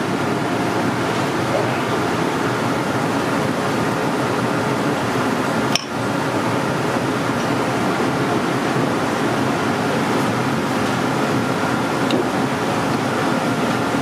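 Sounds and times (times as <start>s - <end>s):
fan rushing noise: 0.0s - 14.0s.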